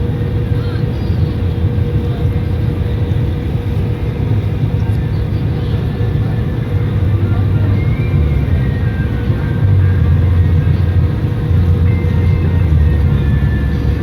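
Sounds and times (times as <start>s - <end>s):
constant hum: 0.0s - 14.0s
low rumble of boat: 0.0s - 14.0s.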